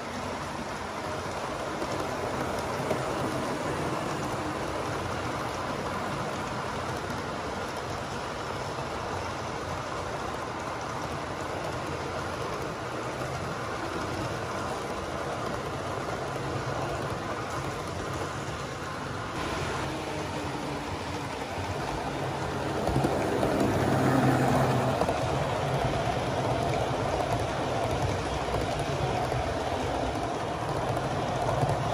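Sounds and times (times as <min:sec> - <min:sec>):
model train wheels on track: 0:00.0 - 0:31.9.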